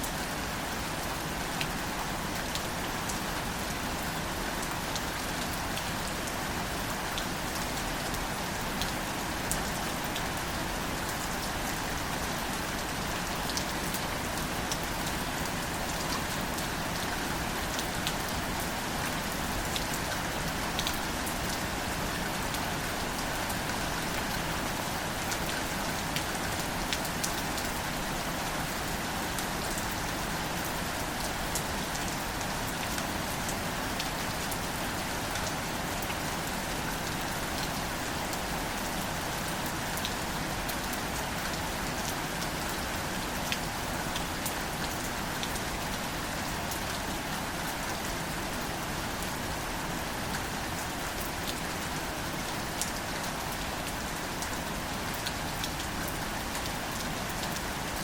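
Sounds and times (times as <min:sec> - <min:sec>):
gentle rain on plants: 0:00.0 - 0:58.0.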